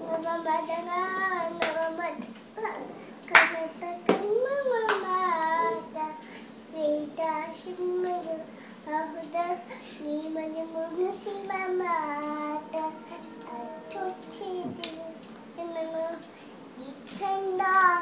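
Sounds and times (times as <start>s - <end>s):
girl singing unaccompanied: 0.0s - 18.0s.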